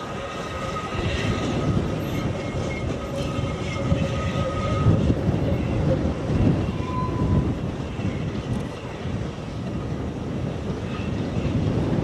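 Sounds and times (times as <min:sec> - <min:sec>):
distant steam train rumble: 0:00.0 - 0:12.0
wind buffeting microphone: 0:00.0 - 0:12.0.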